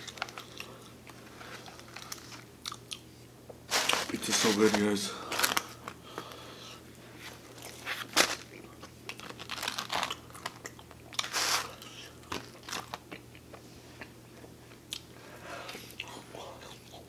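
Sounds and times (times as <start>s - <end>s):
chewing pizza with crunchy crackles: 0.0s - 3.2s, 5.4s - 17.0s.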